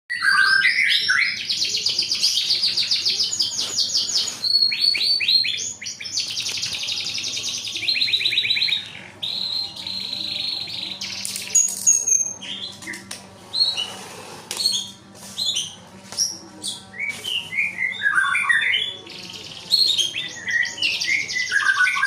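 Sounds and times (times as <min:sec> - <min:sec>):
songbirds trilling: 0:00.1 - 0:22.0.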